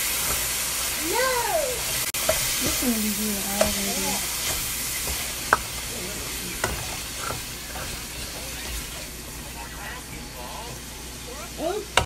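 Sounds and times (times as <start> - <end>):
sauce sizzling in a pot: 0.0 - 12.0.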